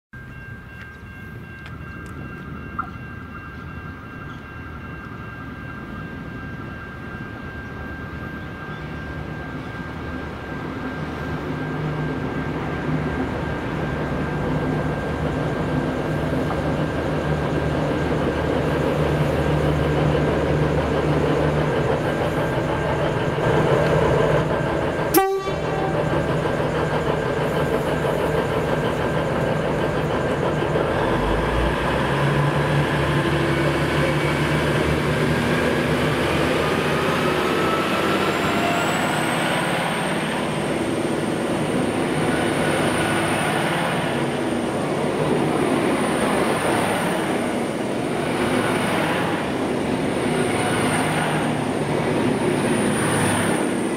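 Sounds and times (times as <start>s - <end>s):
diesel train approaching: 0.1s - 53.9s.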